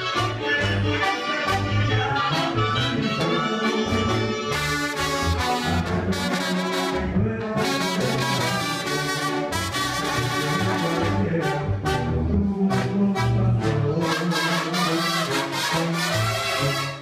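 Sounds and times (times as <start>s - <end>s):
low bass line: 0.0s - 15.0s
trumpets and trombones melody: 0.0s - 17.0s.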